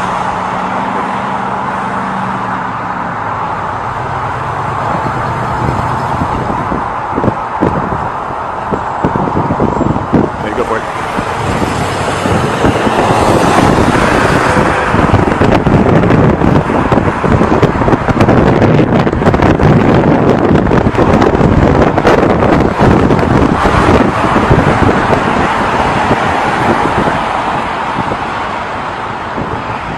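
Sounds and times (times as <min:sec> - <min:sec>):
road traffic noise: 0:00.0 - 0:29.9
wind buffeting microphone: 0:02.6 - 0:29.9.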